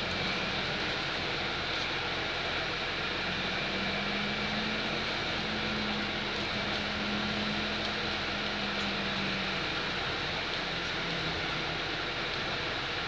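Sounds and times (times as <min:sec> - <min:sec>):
bus engine and road hiss: 0:00.0 - 0:13.0.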